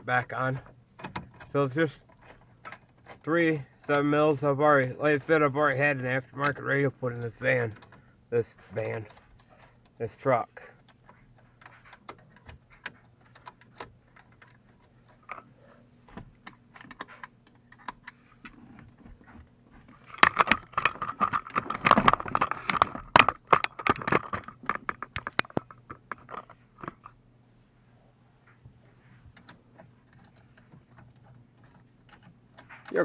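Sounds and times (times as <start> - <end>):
tools and plastic parts rattling: 0.4 - 4.0, 5.3 - 27.2, 29.3 - 33.0.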